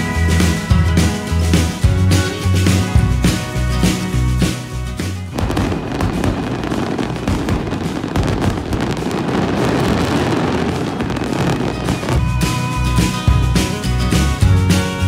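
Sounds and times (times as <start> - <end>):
fireworks crackling: 0.0 - 15.0
music: 0.0 - 15.0.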